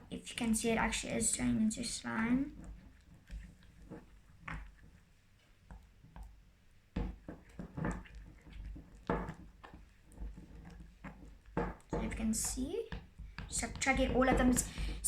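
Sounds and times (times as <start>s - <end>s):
stirrer tapping bowl: 1.9s - 15.0s.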